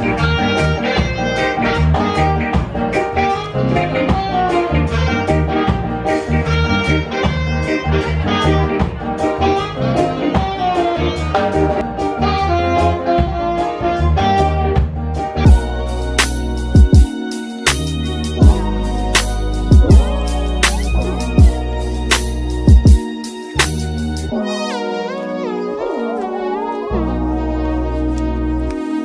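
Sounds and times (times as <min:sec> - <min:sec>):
drum kit beat: 0:00.0 - 0:13.7, 0:14.3 - 0:24.4
electric bass: 0:00.0 - 0:17.1, 0:17.7 - 0:24.4, 0:26.8 - 0:29.0
saxophone melody: 0:00.0 - 0:29.0.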